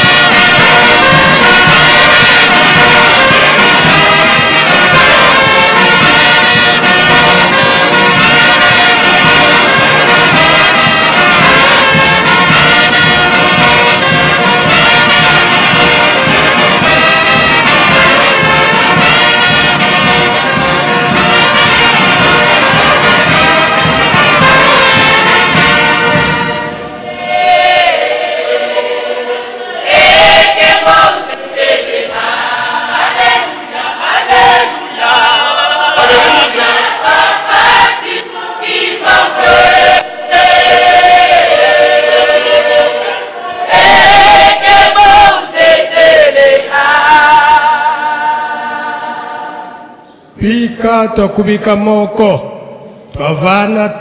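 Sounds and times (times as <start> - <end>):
voices singing melody: 0.0 - 51.0
brass band playing a hymn: 0.0 - 54.0.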